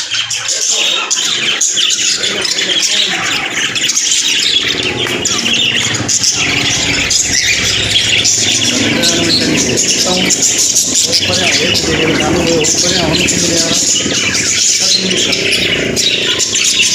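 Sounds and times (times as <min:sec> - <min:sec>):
parrots chattering and squawking: 0:00.0 - 0:16.9.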